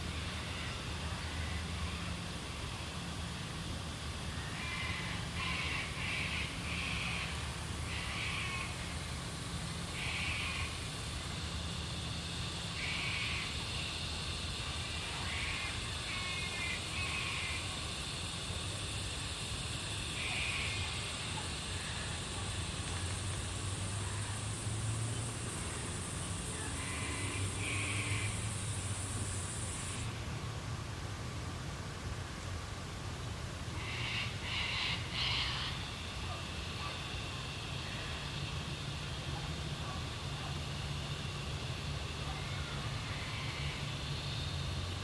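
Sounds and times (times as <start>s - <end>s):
high insect drone: 0.0s - 30.6s, 33.6s - 45.0s.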